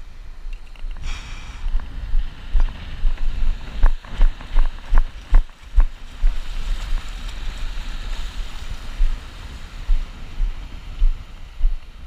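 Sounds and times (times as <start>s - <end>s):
small waves washing up beach: 0.0s - 12.0s
wind rumble on microphone: 0.0s - 12.0s.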